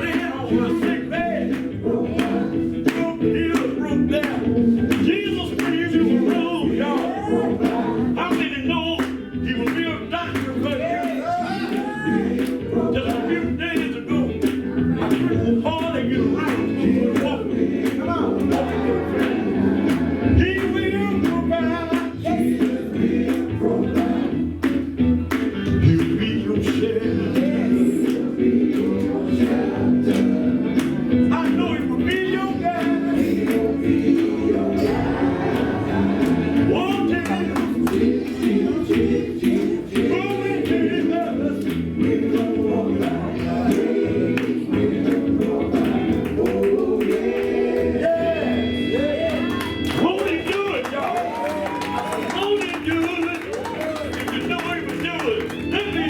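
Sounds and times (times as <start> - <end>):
gospel singing with band: 0.0 - 56.0.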